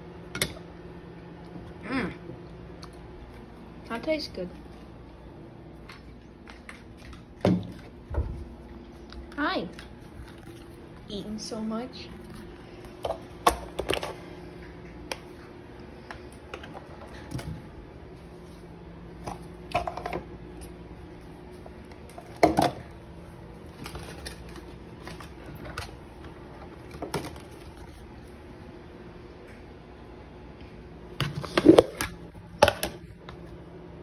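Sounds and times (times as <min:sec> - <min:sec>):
appliance humming: 0:00.0 - 0:34.0.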